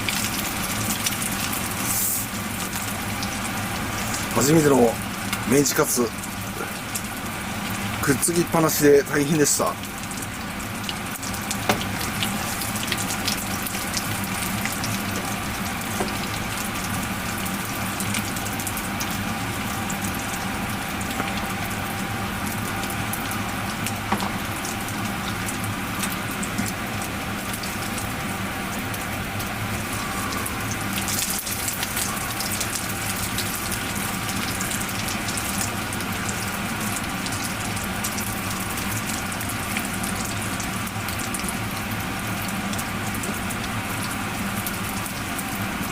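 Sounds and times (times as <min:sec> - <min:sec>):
deep-frying sizzle: 0:00.0 - 0:45.9.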